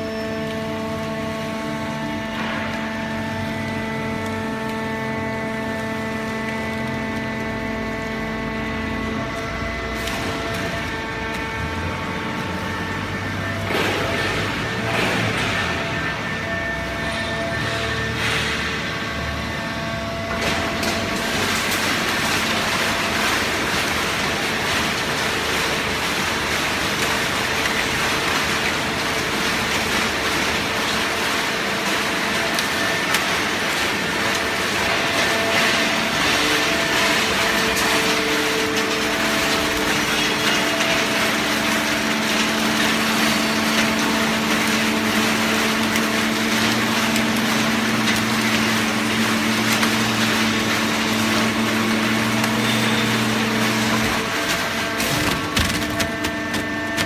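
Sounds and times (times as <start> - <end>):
baler motor and pump hum: 0.0 - 57.0
broad mechanical noise: 0.0 - 57.0.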